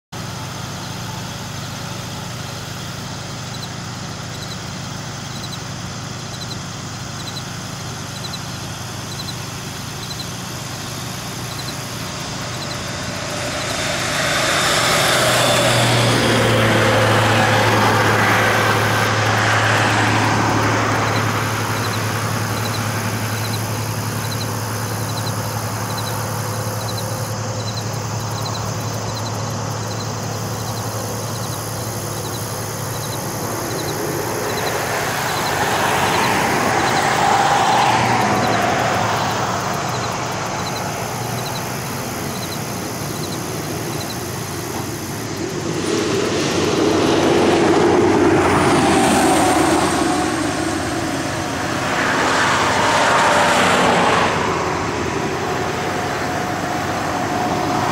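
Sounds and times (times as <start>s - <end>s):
low engine hum: 0.1s - 57.9s
truck driving past: 0.2s - 57.9s.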